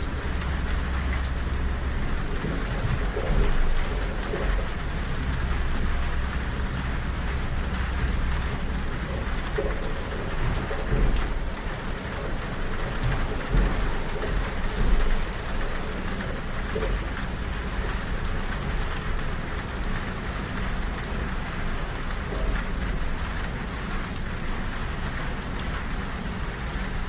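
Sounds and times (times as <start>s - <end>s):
moving train rumble: 0.0s - 27.0s
rain on a train window: 0.0s - 27.0s.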